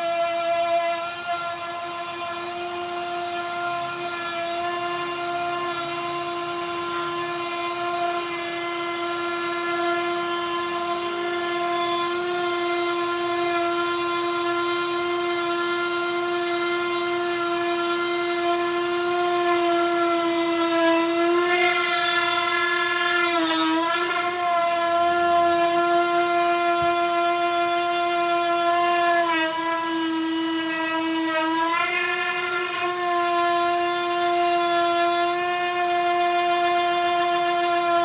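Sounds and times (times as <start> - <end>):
power sander on wood: 0.0 - 38.0.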